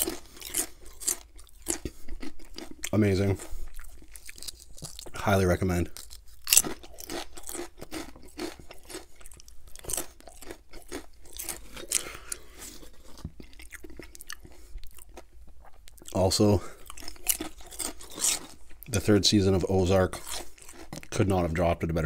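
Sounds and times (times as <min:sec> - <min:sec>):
chewing crunchy chips: 0:00.0 - 0:21.6.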